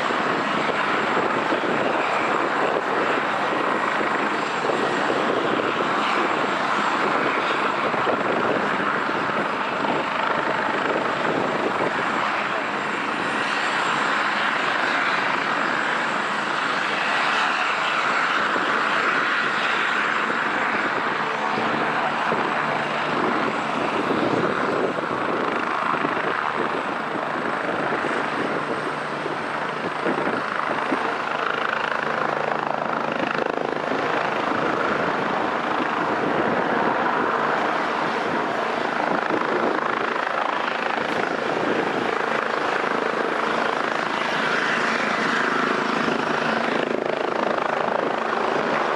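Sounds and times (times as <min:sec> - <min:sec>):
helicopter rotor and turbine noise: 0:00.0 - 0:48.9.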